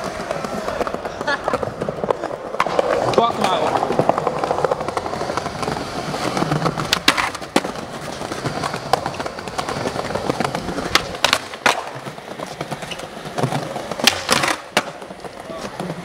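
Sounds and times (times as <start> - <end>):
skateboard clacking on ground: 0.0 - 16.0
skateboard trucks striking ledge: 0.0 - 16.0
skateboard wheels rolling on stone: 0.0 - 16.0.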